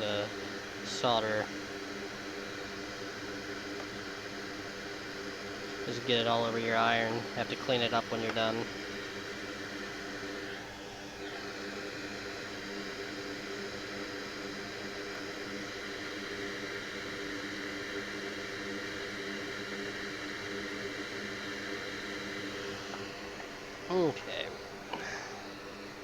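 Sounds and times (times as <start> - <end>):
electric fan whirring: 0.0 - 26.0
low steady hum: 0.0 - 26.0.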